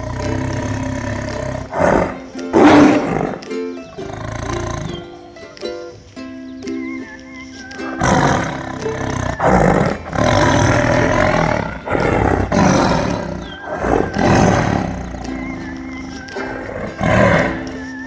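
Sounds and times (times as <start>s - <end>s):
large animal roaring: 0.0s - 3.4s, 4.0s - 5.1s, 7.9s - 18.0s.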